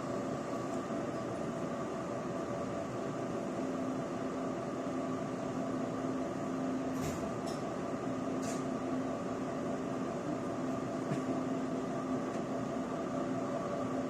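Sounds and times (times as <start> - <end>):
train car air-conditioning hum: 0.0 - 14.0.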